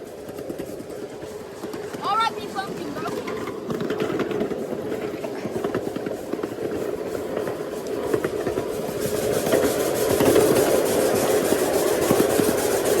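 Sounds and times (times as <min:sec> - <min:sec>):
train rumble: 0:00.0 - 0:13.0
train wheels clattering: 0:00.0 - 0:13.0.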